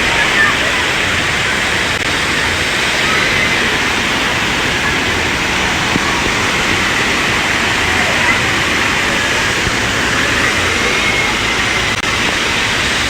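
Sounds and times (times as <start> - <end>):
rush of flowing water: 0.0 - 13.0.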